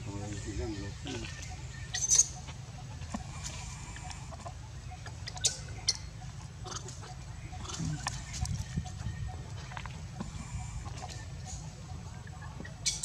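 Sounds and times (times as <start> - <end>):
steady low rumble: 0.0 - 12.8
macaques squeaking: 0.1 - 13.0.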